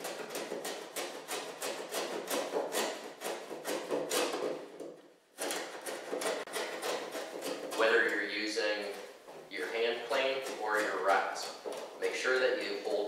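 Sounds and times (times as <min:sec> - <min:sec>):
hand tool scraping wood: 0:00.0 - 0:13.0.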